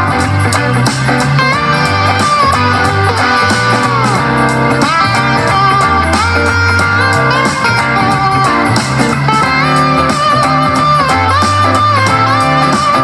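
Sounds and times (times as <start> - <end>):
guitar-led music with beat: 0.0 - 13.0.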